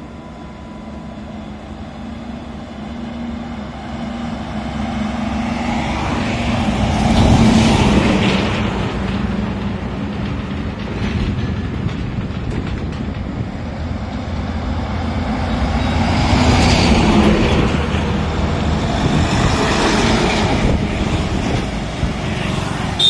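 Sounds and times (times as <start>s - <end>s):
heavy trucks passing: 0.0s - 23.0s.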